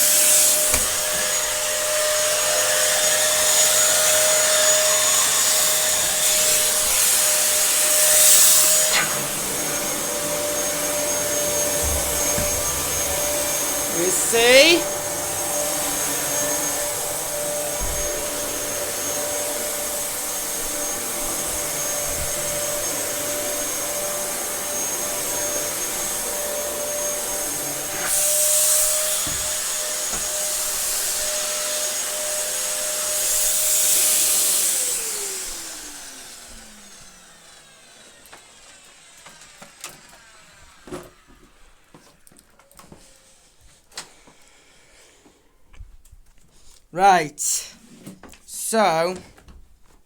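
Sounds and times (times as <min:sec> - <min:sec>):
vacuum cleaner running: 0:00.0 - 0:42.3.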